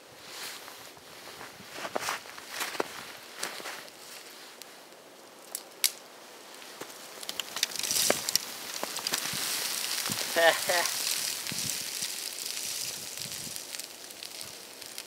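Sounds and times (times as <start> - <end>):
campfire crackling and popping: 1.8 - 15.0.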